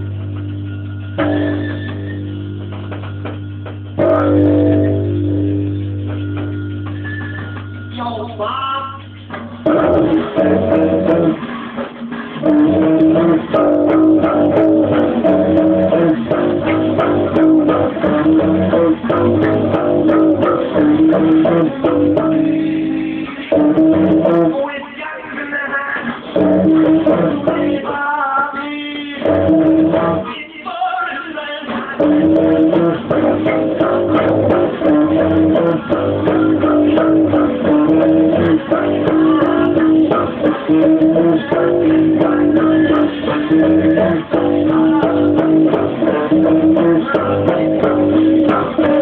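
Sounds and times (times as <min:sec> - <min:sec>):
electric bass notes ringing: 0:00.0 - 0:08.5, 0:09.2 - 0:11.6, 0:12.2 - 0:24.6, 0:26.3 - 0:27.9, 0:29.2 - 0:30.3, 0:32.0 - 0:49.0.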